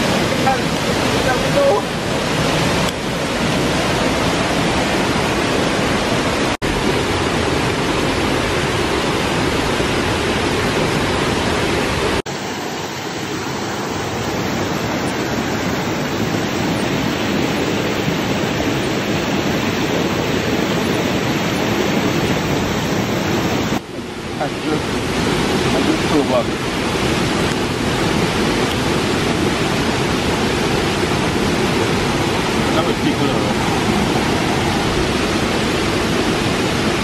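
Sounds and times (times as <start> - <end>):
waterfall over rocks: 0.0 - 37.0.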